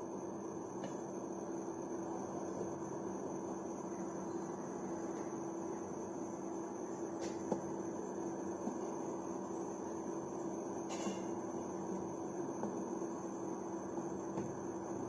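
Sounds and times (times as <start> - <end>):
cooling fan humming: 0.0 - 15.0
faint high whine: 0.0 - 15.0.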